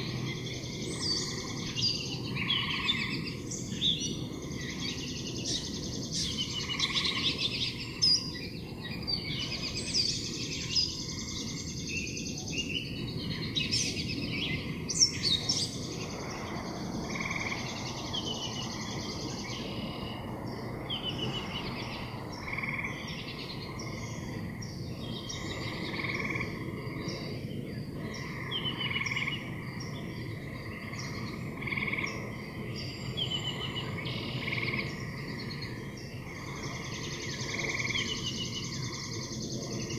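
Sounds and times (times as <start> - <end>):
birds chirping and singing: 0.0 - 39.9
steady low rush: 0.0 - 39.9.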